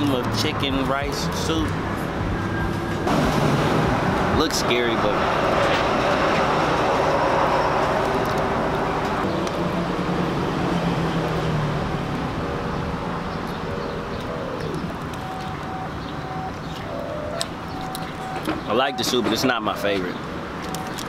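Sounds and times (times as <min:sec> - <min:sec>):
vehicle passing: 0:00.0 - 0:18.8
street traffic: 0:00.0 - 0:21.0.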